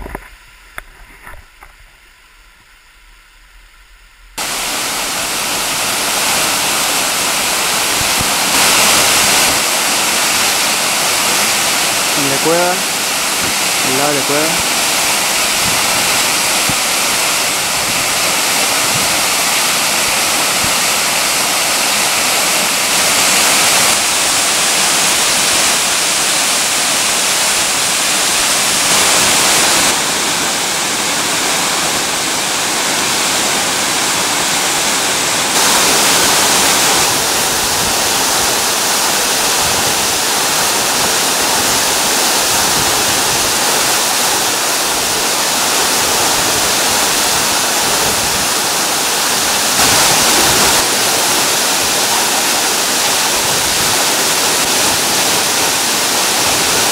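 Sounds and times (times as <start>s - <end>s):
waterfall rushing: 4.4s - 56.9s.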